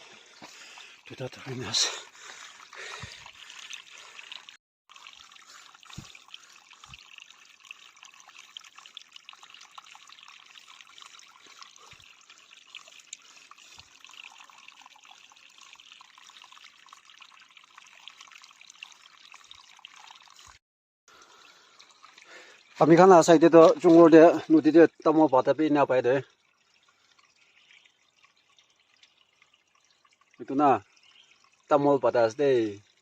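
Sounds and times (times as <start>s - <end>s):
trickle of running water: 0.0s - 33.0s.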